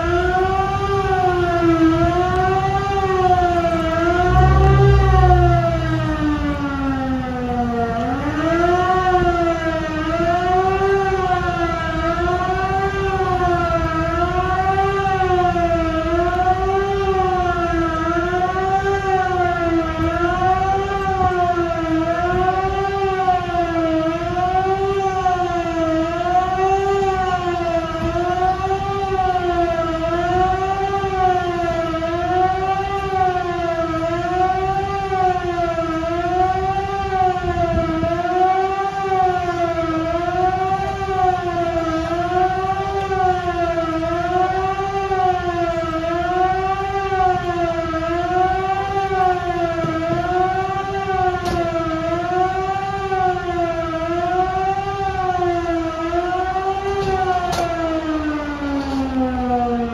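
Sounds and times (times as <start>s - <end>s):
fire station siren wailing: 0.0s - 59.9s.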